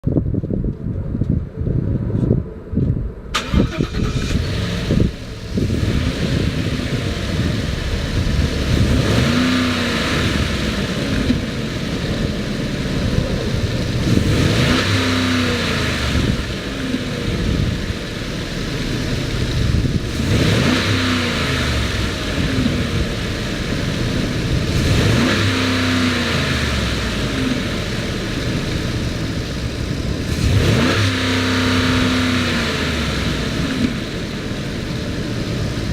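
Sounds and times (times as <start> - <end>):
truck engine idling and revving: 0.0 - 35.9
truck engine cranking and starting: 3.2 - 35.9.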